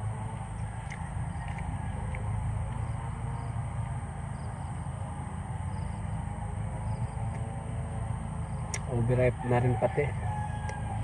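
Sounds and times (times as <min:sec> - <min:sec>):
steady low rumble: 0:00.0 - 0:09.4
insects trilling: 0:00.0 - 0:11.0.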